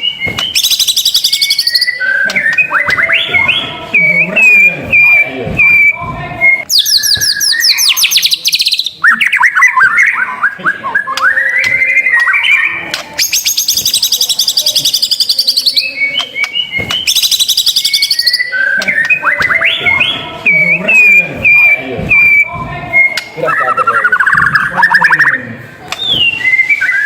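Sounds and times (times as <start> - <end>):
bird singing trills and whistles: 0.0 - 27.0.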